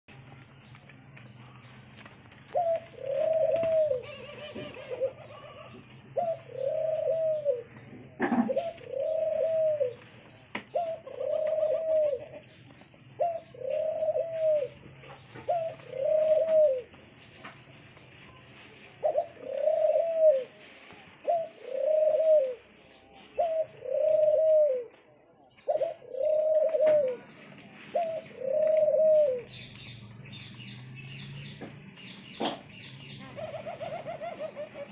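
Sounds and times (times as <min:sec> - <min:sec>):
dove cooing: 0:02.5 - 0:17.2, 0:17.8 - 0:30.0, 0:32.3 - 0:34.9.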